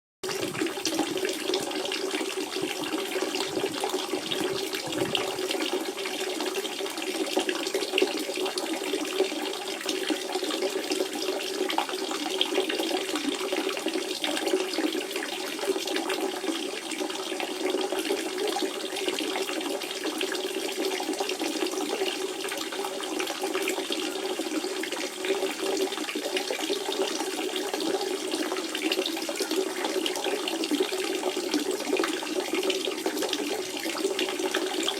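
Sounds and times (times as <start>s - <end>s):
spring water trickling and splashing: 0.2s - 34.9s.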